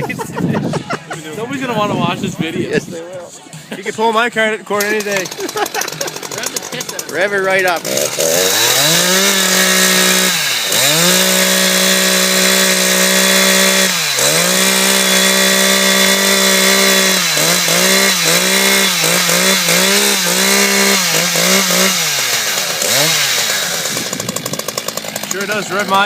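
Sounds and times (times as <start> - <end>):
chainsaw revving: 4.8 - 26.0.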